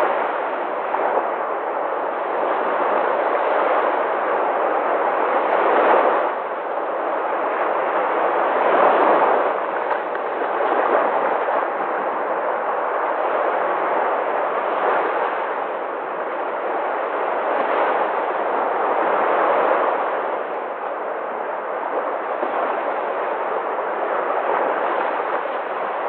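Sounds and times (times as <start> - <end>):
sea waves washing: 0.0 - 26.0.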